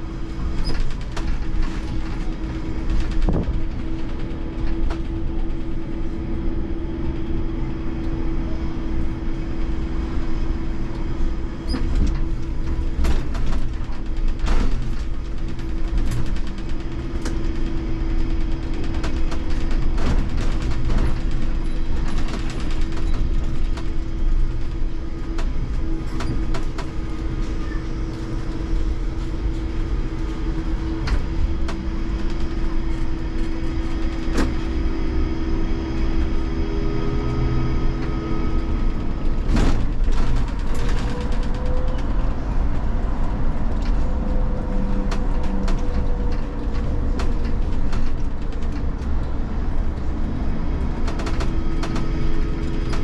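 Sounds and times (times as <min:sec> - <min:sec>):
road rumble: 0:00.0 - 0:53.0
trolleybus motor hum: 0:00.0 - 0:53.0.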